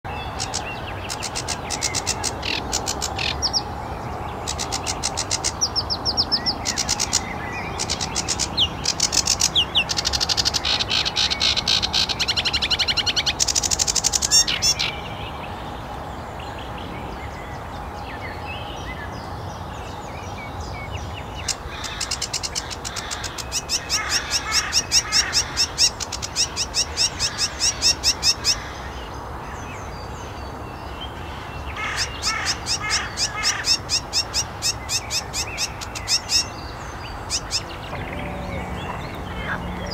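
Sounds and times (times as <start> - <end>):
warbler singing trills: 0.1 - 39.9.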